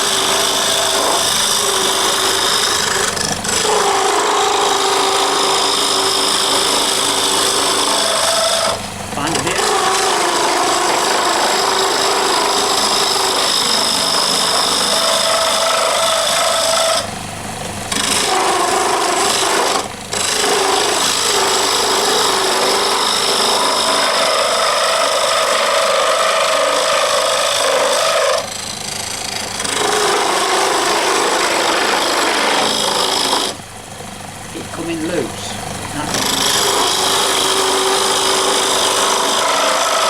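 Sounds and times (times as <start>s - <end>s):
turning tool scraping wood: 0.0s - 17.1s, 17.9s - 33.7s, 34.5s - 40.0s
wood lathe humming: 0.0s - 40.0s.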